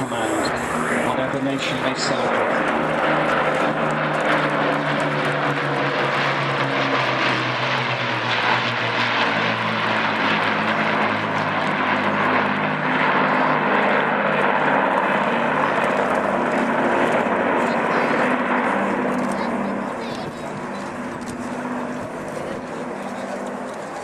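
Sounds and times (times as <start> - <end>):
propeller plane engines droning: 0.0 - 24.0.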